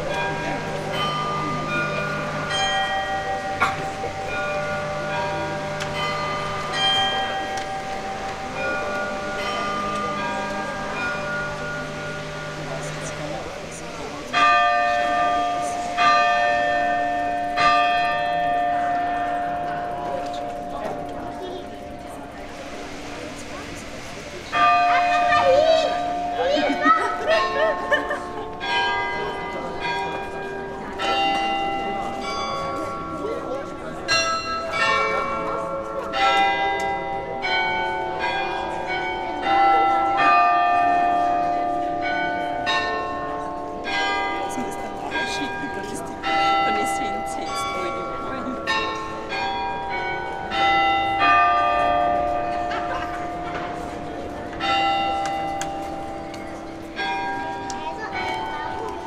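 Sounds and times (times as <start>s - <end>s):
large tower bell ringing: 0.0s - 59.0s.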